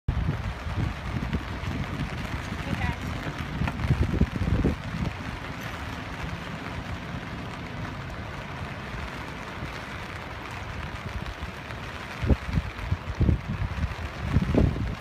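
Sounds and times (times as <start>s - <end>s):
low rumble: 0.1s - 15.0s.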